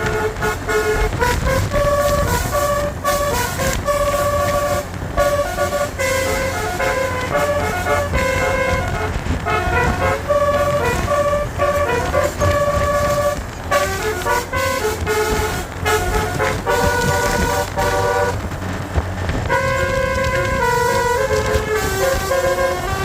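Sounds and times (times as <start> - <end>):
bus horn playing a melody: 0.0 - 23.0
low rumble: 0.0 - 23.0.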